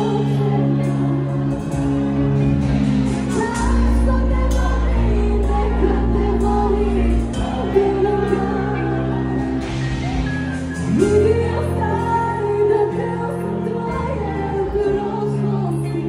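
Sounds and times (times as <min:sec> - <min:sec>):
woman singing into microphone: 0:00.0 - 0:01.9, 0:03.2 - 0:09.8, 0:10.8 - 0:16.0
live amplified band: 0:00.0 - 0:16.0.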